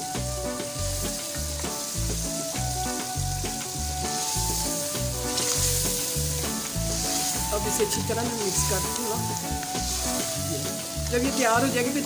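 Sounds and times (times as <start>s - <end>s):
background music with steady beat: 0.0s - 12.0s
curry sizzling in a pot: 0.0s - 12.0s
wooden spoon stirring: 1.2s - 11.8s.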